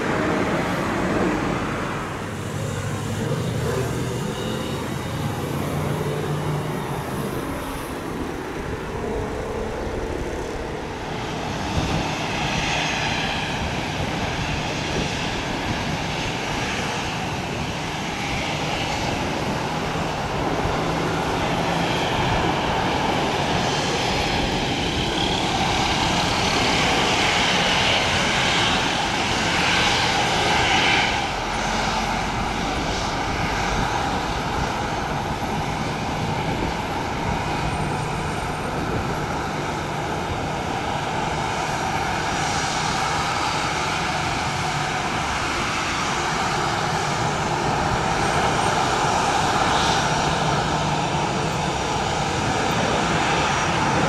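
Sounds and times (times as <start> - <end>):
jet engines whining at taxi power: 0.0 - 54.0.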